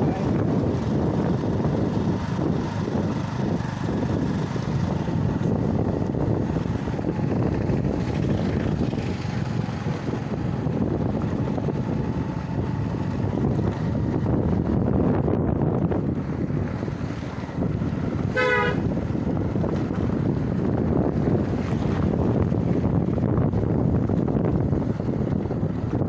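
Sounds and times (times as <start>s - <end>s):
road vehicle rumble: 0.0s - 26.0s
wind buffeting microphone: 0.0s - 26.0s.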